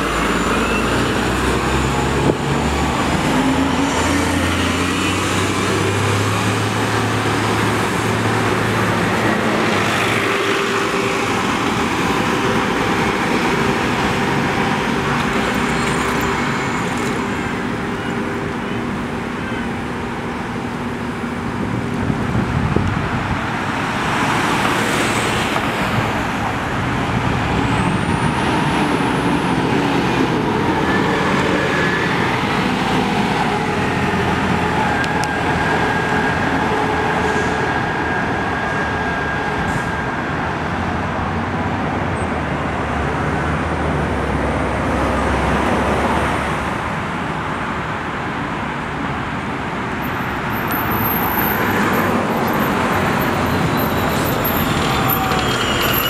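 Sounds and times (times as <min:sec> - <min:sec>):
buses pulling away: 0:00.0 - 0:56.0
street traffic: 0:00.0 - 0:56.0.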